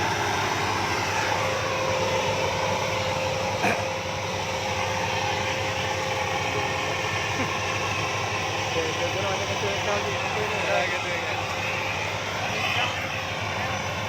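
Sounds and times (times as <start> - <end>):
constant whine: 0.0 - 14.0
machine engine running: 0.0 - 14.0.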